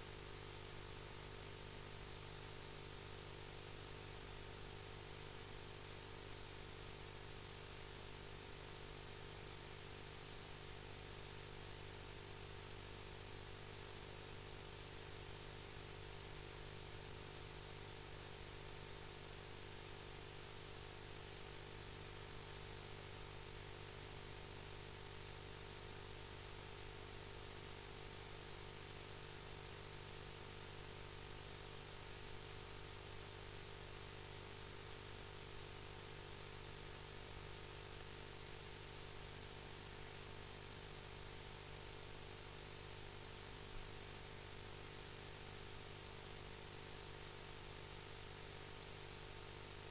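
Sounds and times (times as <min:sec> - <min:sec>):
faint steady hiss: 0:00.0 - 0:49.9
low electrical hum: 0:00.0 - 0:49.9.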